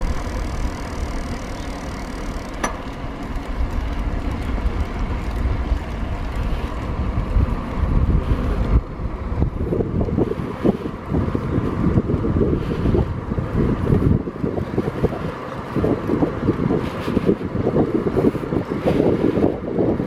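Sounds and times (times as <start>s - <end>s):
tyre road noise: 0.0s - 20.0s
wind noise: 0.0s - 20.0s.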